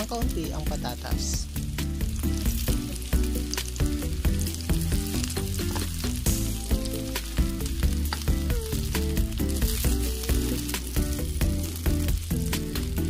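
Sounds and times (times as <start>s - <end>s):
background music: 0.0s - 13.0s
food sizzling in a pan: 0.0s - 13.0s.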